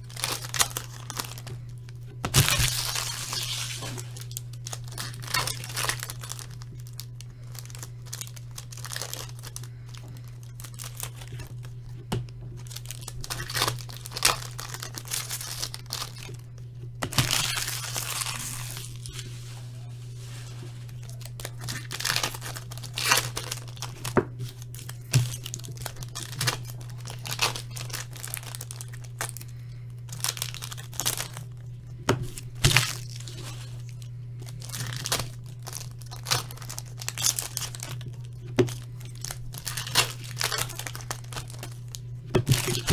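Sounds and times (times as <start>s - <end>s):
card pack wrappers tearing: 0.0s - 11.9s, 12.5s - 42.9s
steady low hum: 0.0s - 42.9s.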